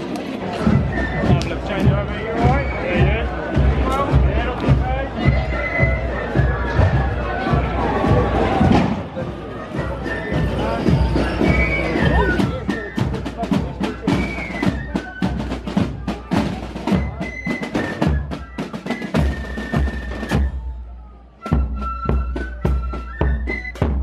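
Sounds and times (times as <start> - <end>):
parade drums beating: 0.0 - 24.0.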